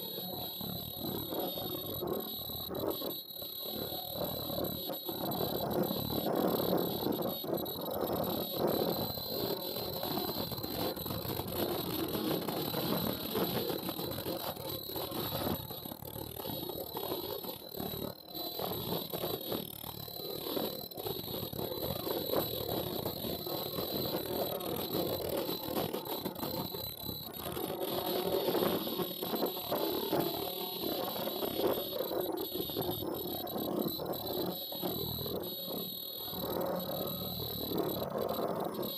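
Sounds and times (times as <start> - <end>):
high-pitched machine whine: 0.0 - 38.9.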